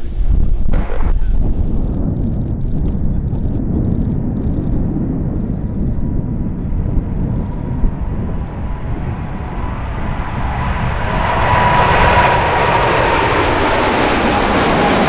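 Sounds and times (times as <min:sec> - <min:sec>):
faint engine whine: 0:00.0 - 0:15.0
jet engines rumbling: 0:00.0 - 0:15.0.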